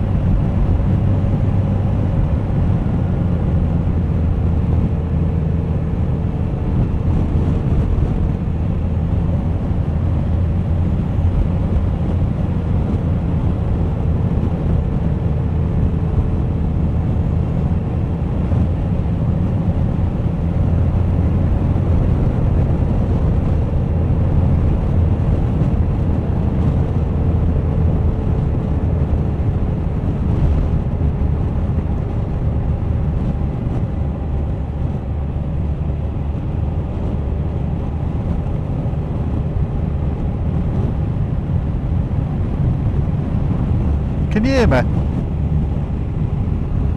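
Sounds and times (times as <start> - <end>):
wind on microphone: 0.0 - 46.9.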